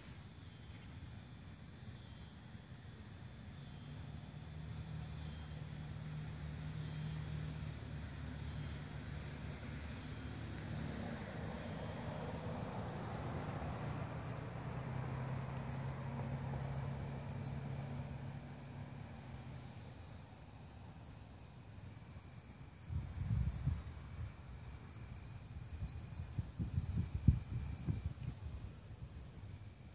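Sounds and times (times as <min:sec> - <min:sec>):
crickets chirping: 0:00.0 - 0:29.9
low steady rumble: 0:00.0 - 0:29.9.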